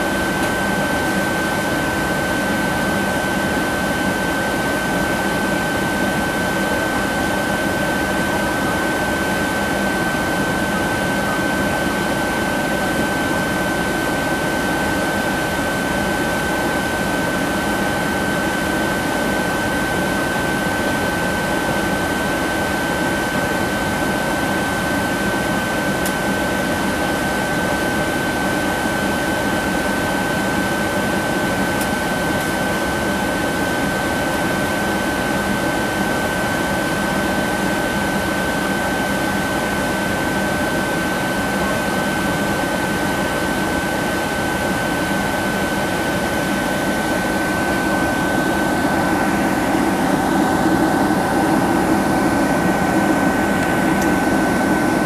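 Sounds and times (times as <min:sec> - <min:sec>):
airliner cabin engine rush: 0:00.0 - 0:55.0
steady high whine: 0:00.0 - 0:55.0.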